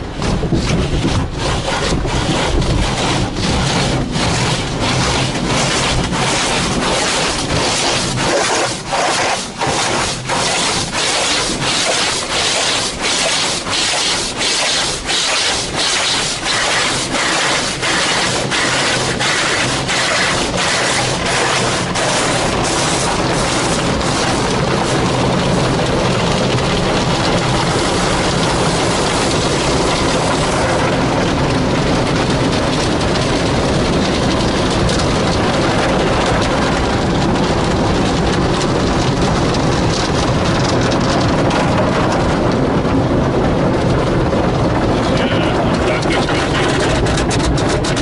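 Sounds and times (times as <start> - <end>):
water jets spraying on car: 0.0 - 48.0.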